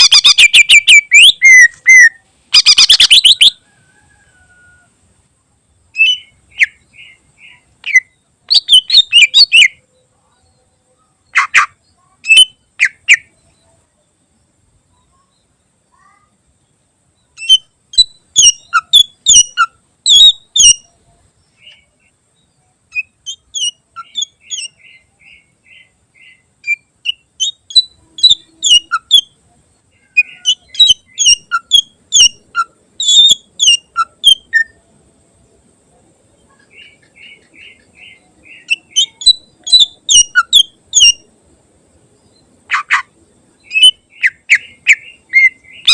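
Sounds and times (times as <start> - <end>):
bird singing rapid chirps and trills: 0.0 - 4.2, 5.7 - 45.9.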